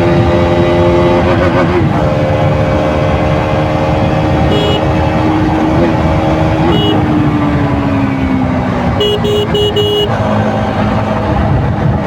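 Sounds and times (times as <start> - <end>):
motorcycle engine running: 0.7 - 11.3.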